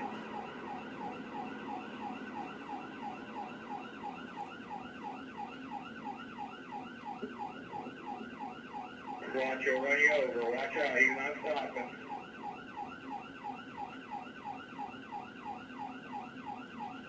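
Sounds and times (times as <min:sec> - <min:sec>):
police siren yelping: 0:00.0 - 0:17.0.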